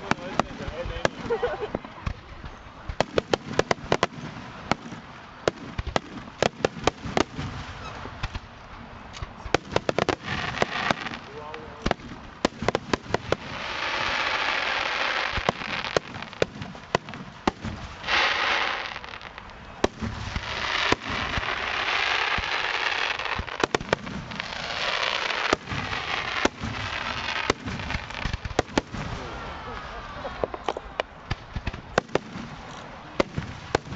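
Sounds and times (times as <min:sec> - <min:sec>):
hissing firework crackle: 0:00.0 - 0:33.9.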